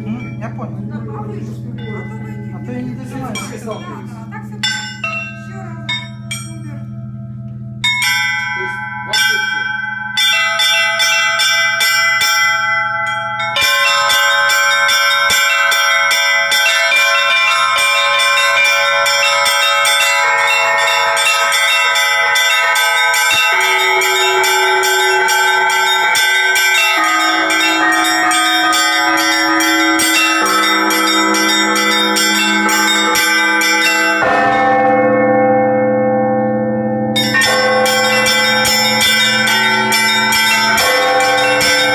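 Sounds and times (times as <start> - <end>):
small high bells chiming: 0.0 - 35.1, 37.0 - 41.9
deep bells ringing: 0.0 - 41.9
middle bells ringing: 0.0 - 41.9.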